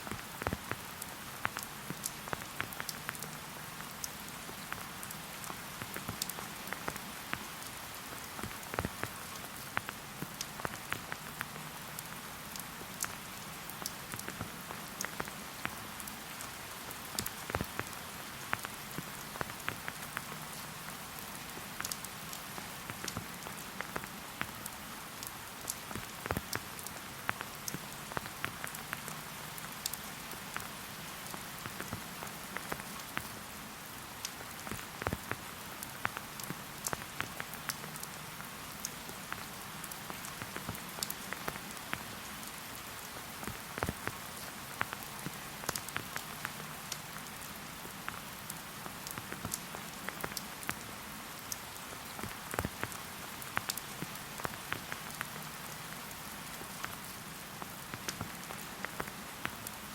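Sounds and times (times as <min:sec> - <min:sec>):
raindrops tapping surfaces: 0:00.0 - 0:59.9
steady rain hiss: 0:00.0 - 0:59.9.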